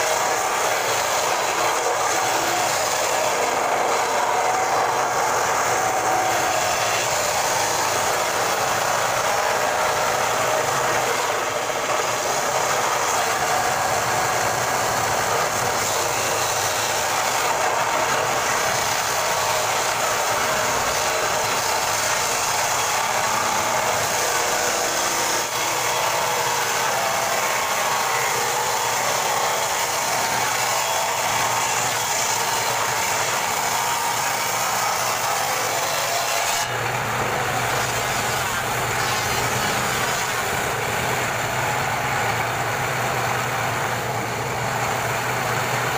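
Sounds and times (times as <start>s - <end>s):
circular saw cutting wood: 0.0s - 45.9s.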